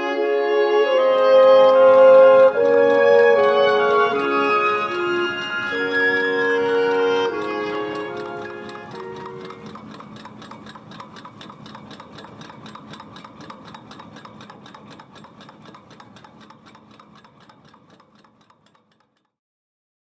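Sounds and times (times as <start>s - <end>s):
rapid mechanical ticking: 0.8s - 19.4s.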